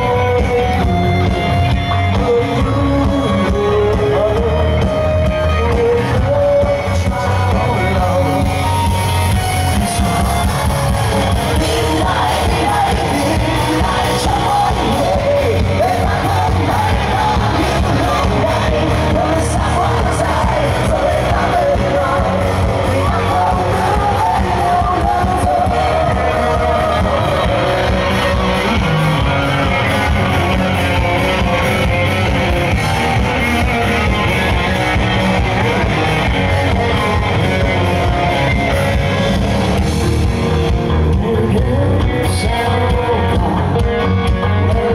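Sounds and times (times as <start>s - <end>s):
person singing: 0.0s - 39.4s, 40.6s - 44.9s
drums: 0.0s - 44.9s
electric guitar: 0.0s - 44.9s.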